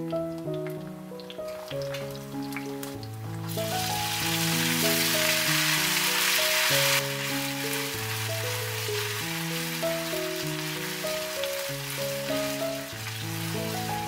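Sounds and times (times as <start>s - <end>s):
background music: 0.0s - 14.0s
hot oil sizzling: 0.0s - 14.0s.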